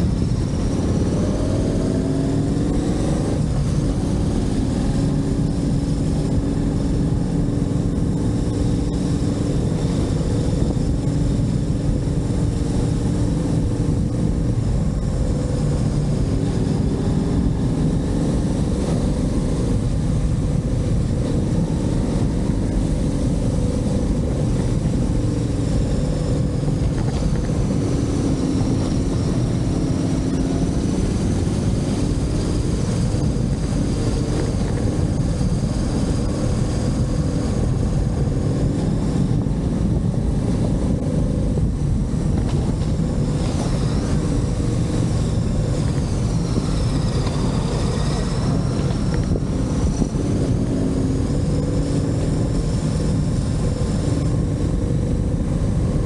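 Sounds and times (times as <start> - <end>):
low rumble: 0.0 - 56.0
motorcycle engine running: 0.0 - 56.0.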